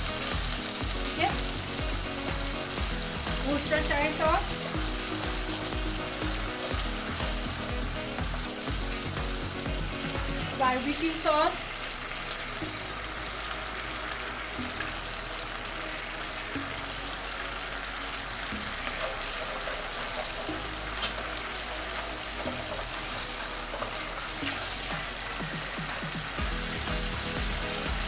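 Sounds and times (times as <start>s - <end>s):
sauce sizzling in hot oil: 0.0s - 28.0s.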